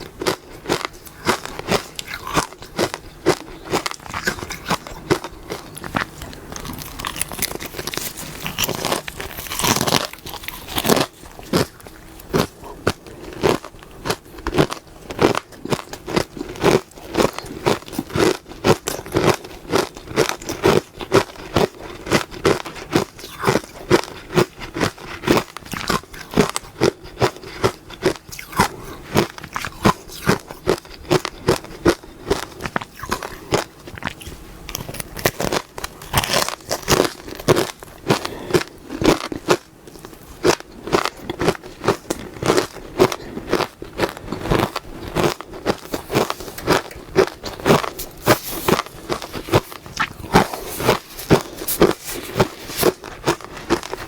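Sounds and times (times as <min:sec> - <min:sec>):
crunchy chewing of ice: 0:00.0 - 0:54.0.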